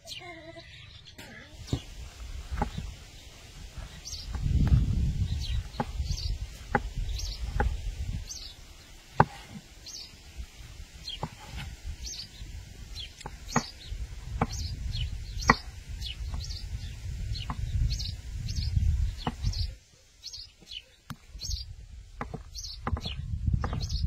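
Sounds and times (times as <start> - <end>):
small bird chirping: 0.0 - 10.3, 11.0 - 24.0.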